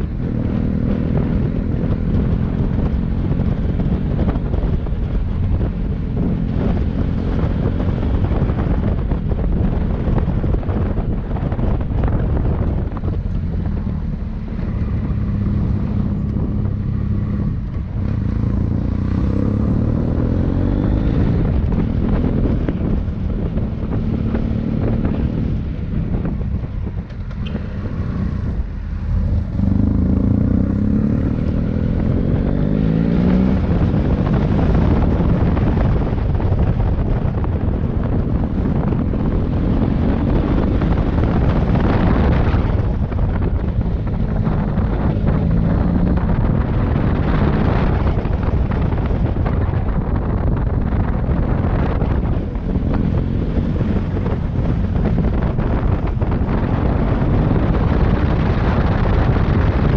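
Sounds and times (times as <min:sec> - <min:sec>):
motorcycle engine running: 0:00.0 - 0:59.9
wind rumbling on microphone: 0:00.0 - 0:59.9.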